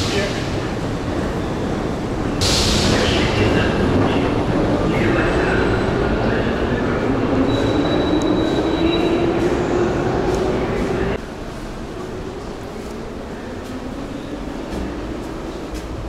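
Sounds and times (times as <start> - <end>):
metro train rumble and rush: 0.0 - 16.0.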